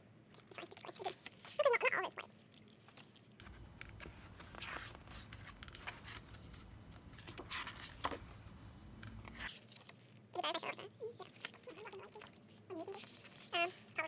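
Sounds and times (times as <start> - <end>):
book pages being turned: 0.7 - 1.8, 2.4 - 10.6, 11.2 - 14.0.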